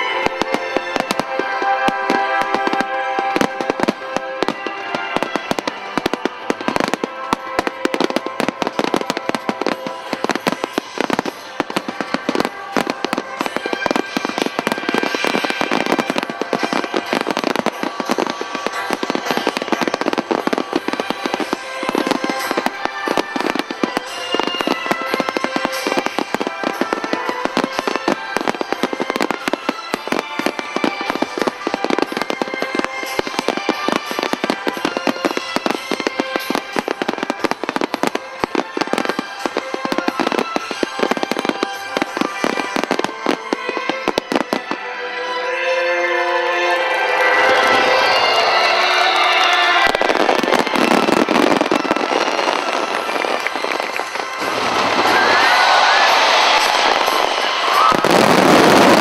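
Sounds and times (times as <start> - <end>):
fireworks bursting: 0.0 - 59.0
music playing: 0.0 - 59.0.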